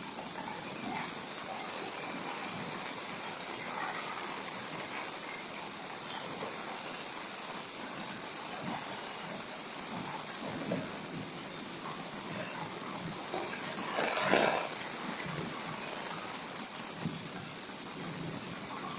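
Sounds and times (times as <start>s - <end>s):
steady rain falling: 0.0s - 18.9s.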